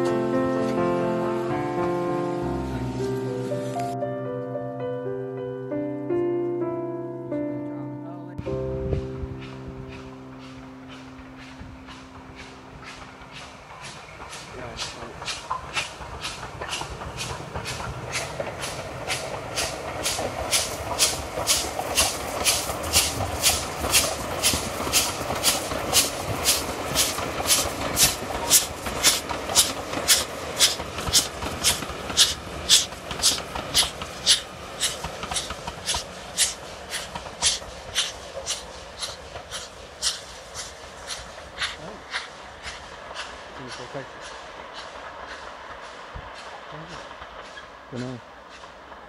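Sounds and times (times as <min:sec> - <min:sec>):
train rumble: 0:08.4 - 0:49.0
steam locomotive chuffing: 0:08.5 - 0:49.0.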